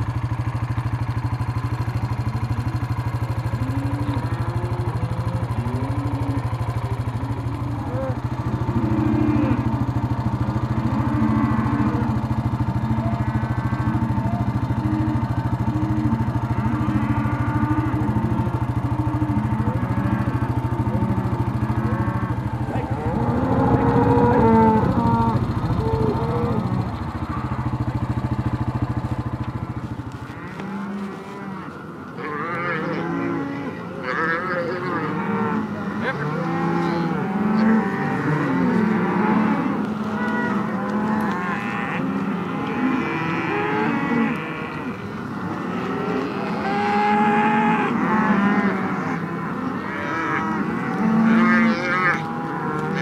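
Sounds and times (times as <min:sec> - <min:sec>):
steady low hum: 0:00.0 - 0:53.0
cattle bawling: 0:01.7 - 0:53.0.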